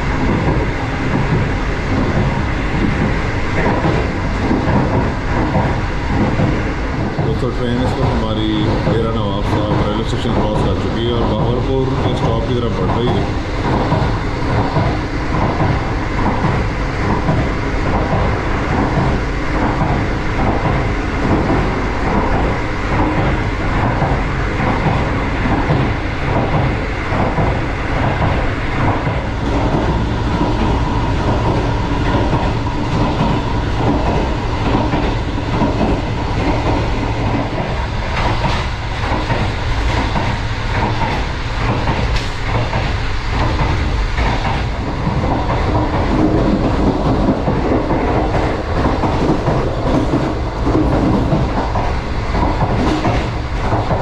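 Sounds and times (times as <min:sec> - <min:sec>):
clickety-clack of train wheels: 0:00.0 - 0:54.0
train wheels rumbling on rail: 0:00.0 - 0:54.0.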